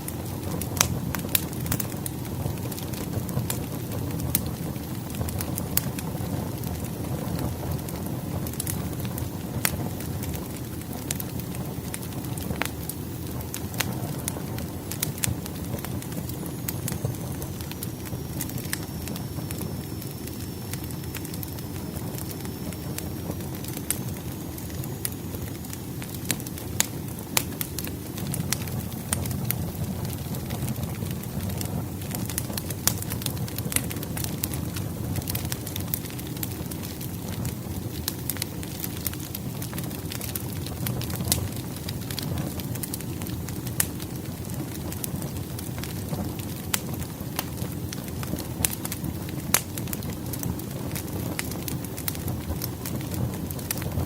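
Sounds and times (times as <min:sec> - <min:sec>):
firewood crackling and popping: 0:00.0 - 0:54.0
wood fire rumbling: 0:00.0 - 0:54.0.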